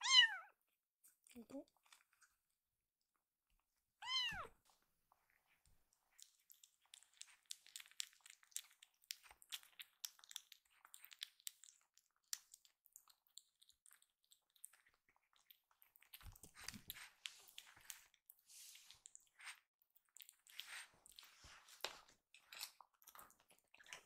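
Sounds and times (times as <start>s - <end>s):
kitten chewing and licking: 1.1s - 2.5s, 4.0s - 24.0s.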